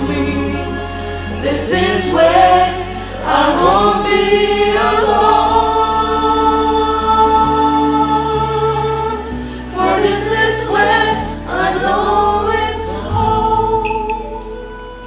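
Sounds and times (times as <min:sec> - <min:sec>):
choir singing: 0:00.0 - 0:15.0
held accompaniment chords: 0:00.0 - 0:15.0.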